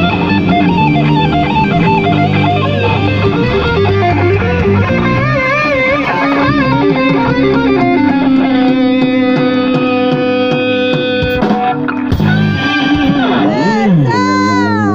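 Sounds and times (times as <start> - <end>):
steady drum beat: 0.0 - 14.4
electric guitar with vibrato: 0.0 - 14.9.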